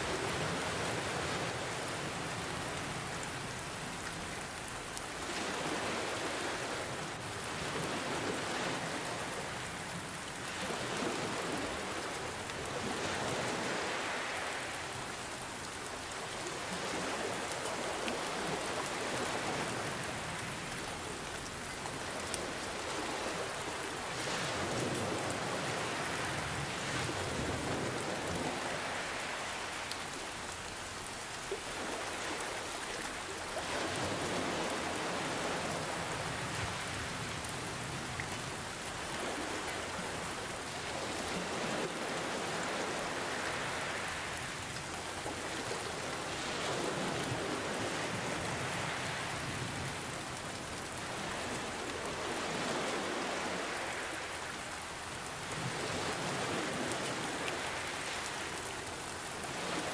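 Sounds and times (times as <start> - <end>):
ocean waves: 0.0 - 59.9
steady rain falling: 0.0 - 59.9.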